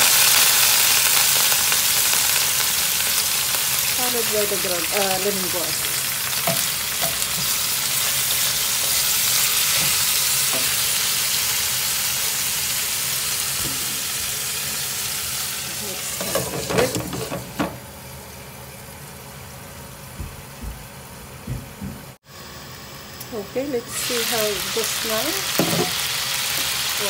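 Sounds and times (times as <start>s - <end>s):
chicken sizzling in a frying pan: 0.0s - 20.1s, 22.2s - 27.0s.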